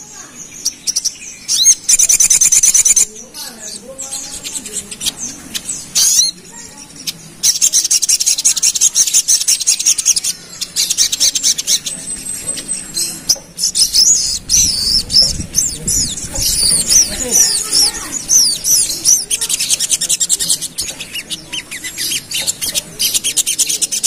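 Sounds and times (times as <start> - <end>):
sunbird high-pitched twittering: 0.0 - 24.0.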